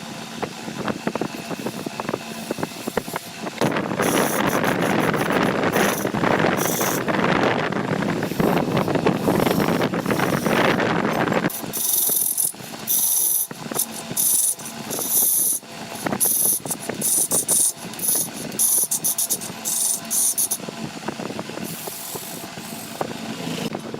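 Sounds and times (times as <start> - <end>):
woodworking machinery noise: 0.0 - 23.9.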